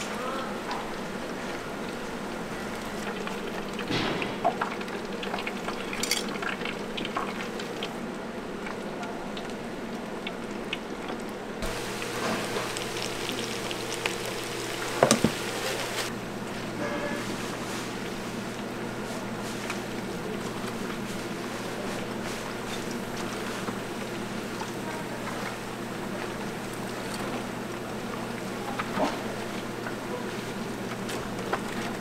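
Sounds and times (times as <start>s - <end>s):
oil sizzling in deep fryer: 0.0s - 32.0s.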